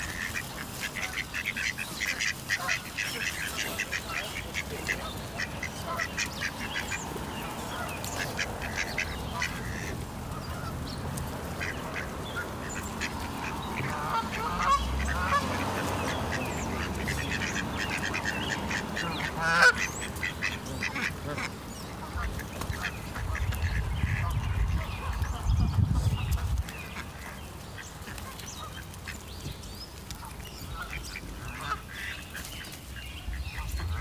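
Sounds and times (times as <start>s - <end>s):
birds calling: 0.0s - 34.0s.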